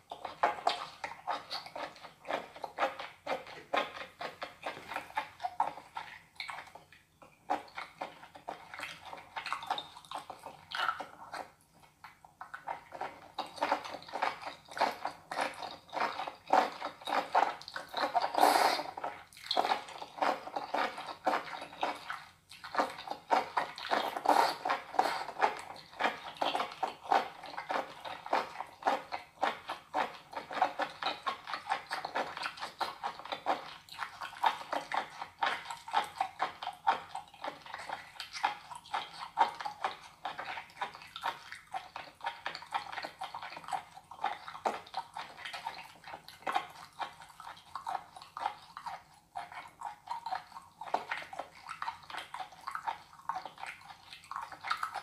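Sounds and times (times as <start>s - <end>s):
slurp: 0.0s - 55.0s
wet chewing and mouth smacks: 0.0s - 55.0s.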